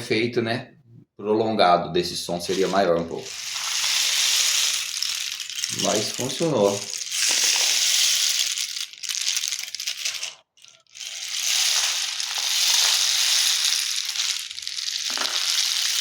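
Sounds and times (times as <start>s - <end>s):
rain stick rushing hiss: 2.5s - 16.0s.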